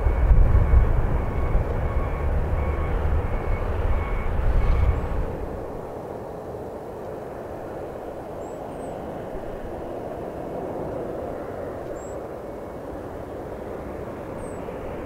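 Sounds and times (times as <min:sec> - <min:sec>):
jet aircraft rumble: 0:00.0 - 0:15.0.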